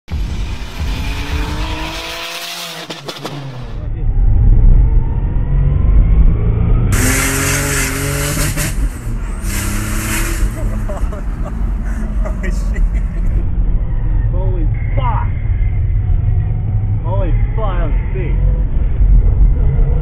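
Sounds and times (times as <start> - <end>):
car engine revving and accelerating: 0.2 - 13.4, 15.9 - 20.0.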